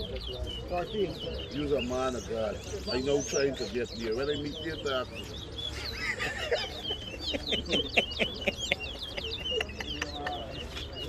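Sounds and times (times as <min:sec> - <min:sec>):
finch singing whistled notes: 0:00.0 - 0:11.0.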